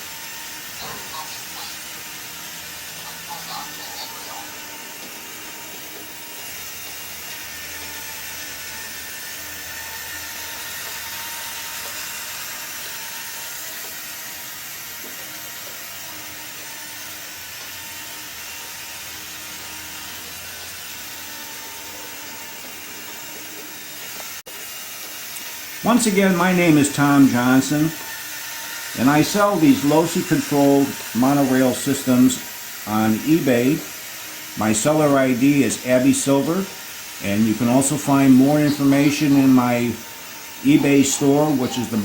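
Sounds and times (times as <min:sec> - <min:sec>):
toy monorail motor whirring: 0:00.0 - 0:42.0.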